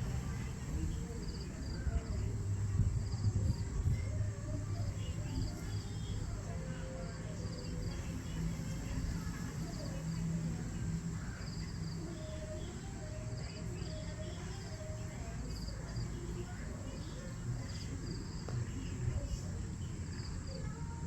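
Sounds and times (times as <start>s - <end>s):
crickets chirping in pulsed trills: 0.0s - 21.0s
low background rumble: 0.0s - 21.0s.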